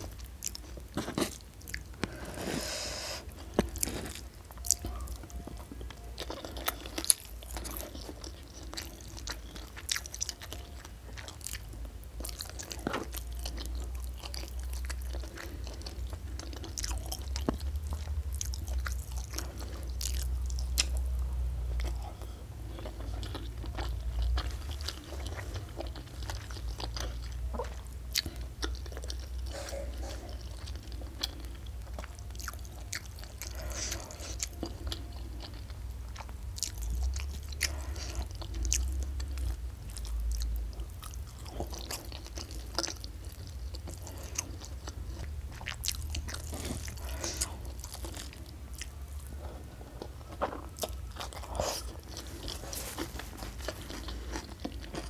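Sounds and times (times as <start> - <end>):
food crunching: 0.0 - 55.0
person chewing food: 0.0 - 55.0.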